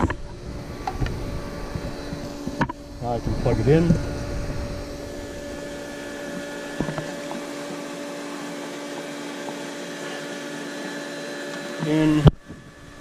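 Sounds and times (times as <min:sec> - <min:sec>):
pool pump motor humming: 0:00.0 - 0:13.0.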